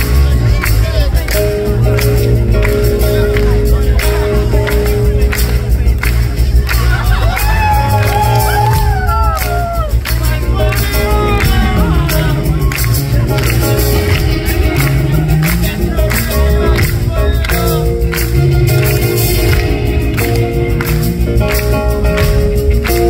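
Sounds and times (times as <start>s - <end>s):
live band playing funk: 0.0s - 23.0s.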